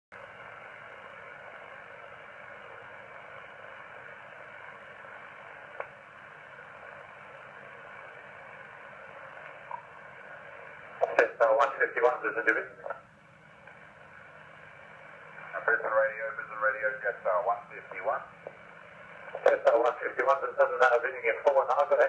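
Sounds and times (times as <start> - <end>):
radio static hiss: 0.1 - 22.0.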